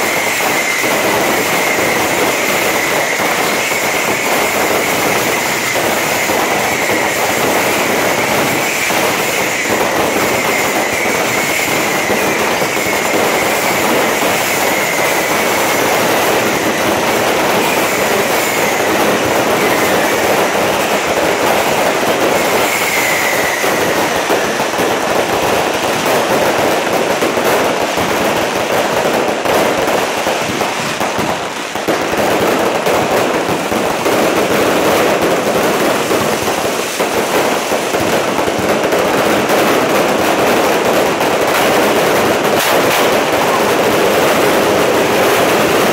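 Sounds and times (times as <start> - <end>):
falling firework whistles: 0.0 - 45.9
firecrackers crackling: 0.0 - 45.9.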